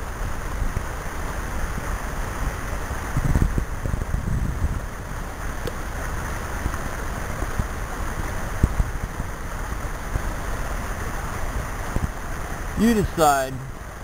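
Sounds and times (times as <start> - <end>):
water running over rocks: 0.0 - 14.0.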